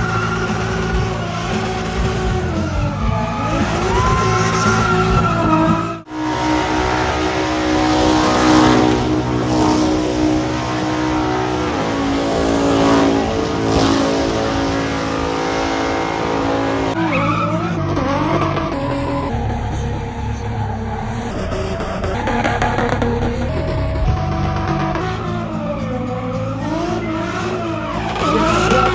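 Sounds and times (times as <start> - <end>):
car engine at high revs: 0.0 - 28.9
tyres spinning and squealing: 0.0 - 28.9.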